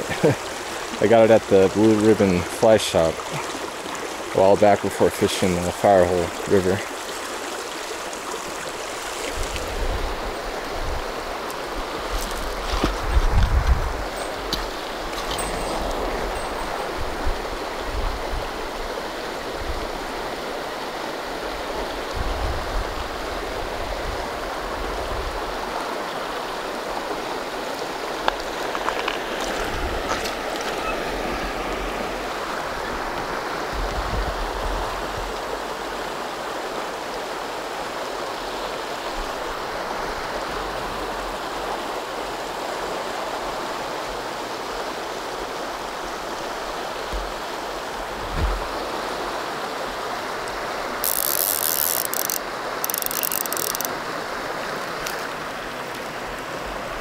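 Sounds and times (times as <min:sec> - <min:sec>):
creek water rushing over rocks: 0:00.0 - 0:57.0.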